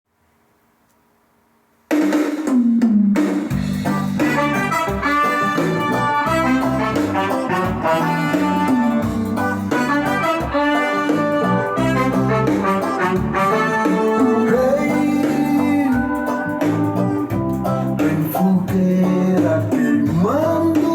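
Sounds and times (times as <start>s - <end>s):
reggae brass and bass: 3.5s - 20.9s.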